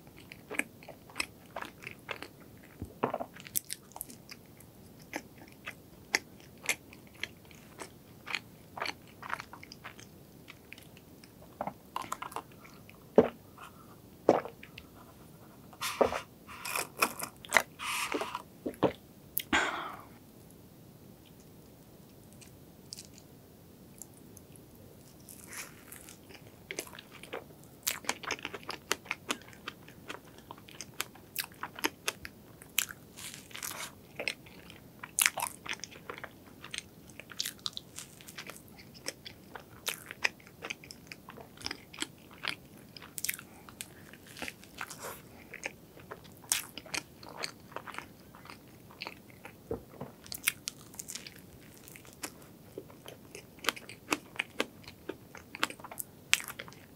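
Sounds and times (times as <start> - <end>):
chewing crunchy pastry: 0.0 - 19.5, 22.3 - 23.3, 24.0 - 56.9.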